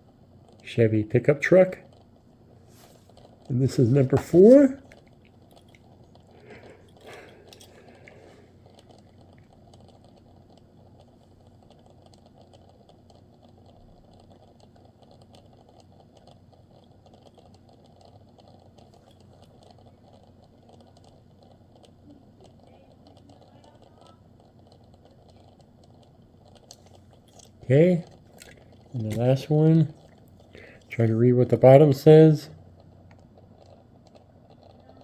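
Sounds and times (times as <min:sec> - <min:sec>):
low room hum: 0:00.0 - 0:35.0
small clicks: 0:03.1 - 0:31.0, 0:32.8 - 0:35.0.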